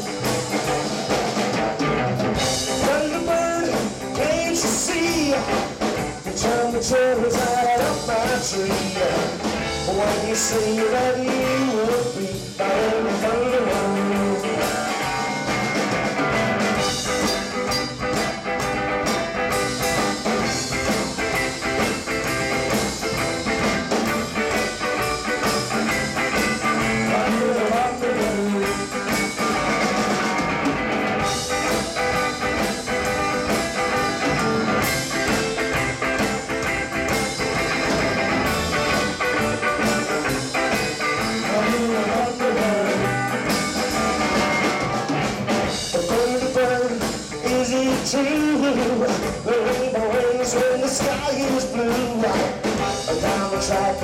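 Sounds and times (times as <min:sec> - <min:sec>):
electric guitar: 0:00.0 - 0:54.0
rockabilly band playing: 0:00.0 - 0:54.0.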